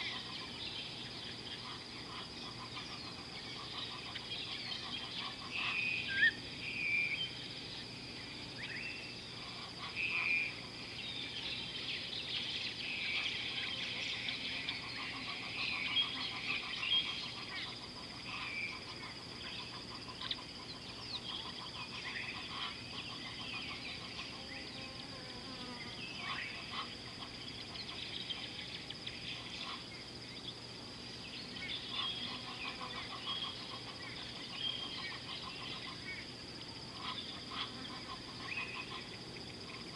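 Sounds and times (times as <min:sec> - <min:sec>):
birds chirping and calling: 0:00.0 - 0:39.9
high-pitched insect drone: 0:00.0 - 0:39.9.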